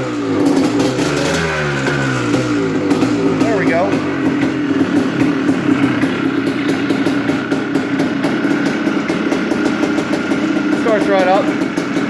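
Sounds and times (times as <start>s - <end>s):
engine knocking: 0.0s - 12.0s
two-stroke engine idling: 0.0s - 12.0s.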